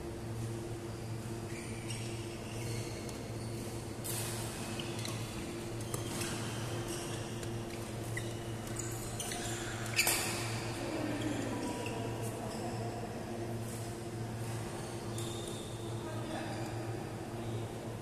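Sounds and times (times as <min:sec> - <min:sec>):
steady low hum: 0:00.0 - 0:18.0
shoes squeaking on court floor: 0:00.4 - 0:13.0, 0:13.6 - 0:15.9.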